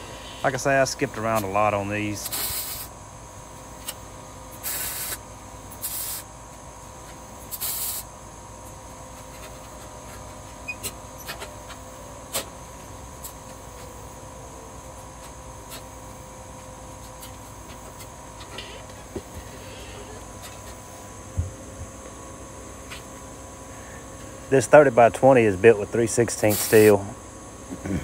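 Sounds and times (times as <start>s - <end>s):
welding arc hiss: 0.0s - 14.2s, 14.9s - 21.1s, 23.7s - 27.1s
steady background hum: 0.0s - 28.0s.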